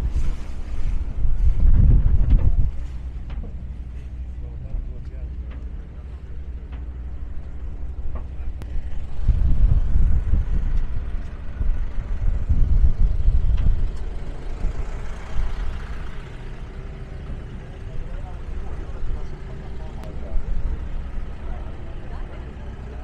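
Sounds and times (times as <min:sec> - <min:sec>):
heavy engine droning: 0:00.0 - 0:23.0.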